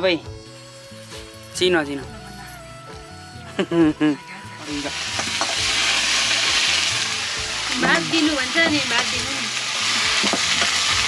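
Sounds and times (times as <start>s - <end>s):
food sizzling in a pan: 0.4s - 11.0s.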